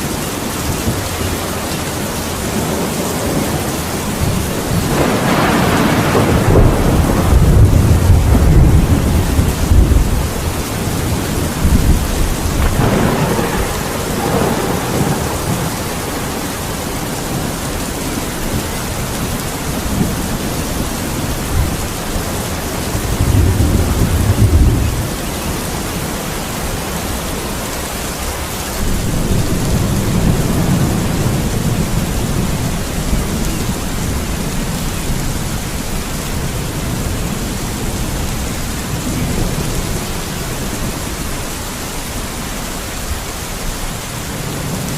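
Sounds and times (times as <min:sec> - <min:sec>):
rolling thunder: 0:00.0 - 0:27.3, 0:28.7 - 0:42.5
steady rain: 0:00.0 - 0:44.9.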